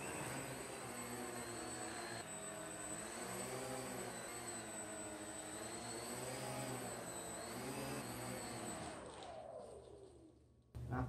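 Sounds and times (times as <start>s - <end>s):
electric motors and propellers whining: 0.0s - 10.6s.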